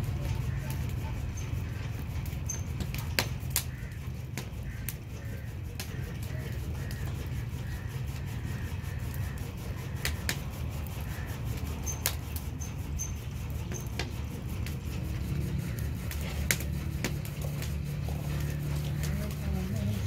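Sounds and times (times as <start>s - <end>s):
potter's wheel humming: 0.0s - 20.0s.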